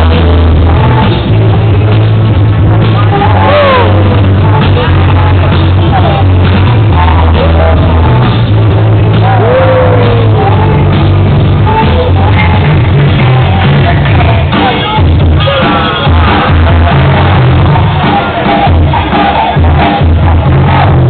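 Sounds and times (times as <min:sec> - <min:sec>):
music with heavy bass line: 0:00.0 - 0:21.0
person singing: 0:00.0 - 0:21.0.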